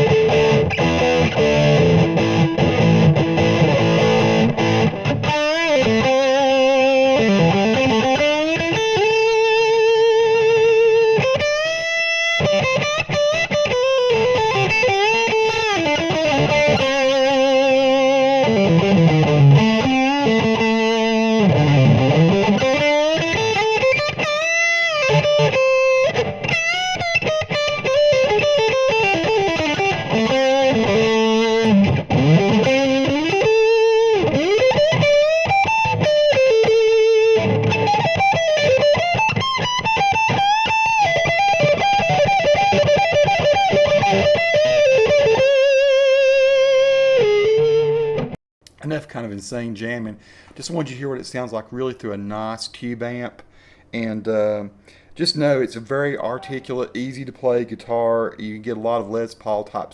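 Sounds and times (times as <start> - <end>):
overdriven electric guitar lead: 0.0 - 48.4.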